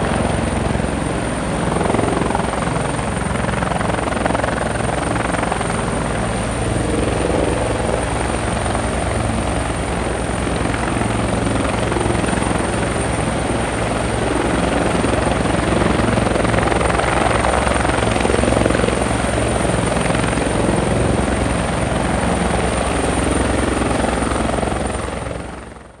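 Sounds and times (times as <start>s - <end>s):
helicopter rotor blades chopping: 0.0s - 26.0s.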